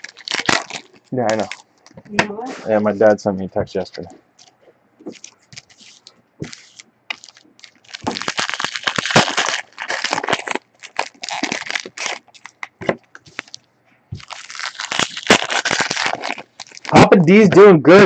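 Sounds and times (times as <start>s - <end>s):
plastic wrapping crinkling: 0.0s - 2.4s, 4.4s - 17.5s.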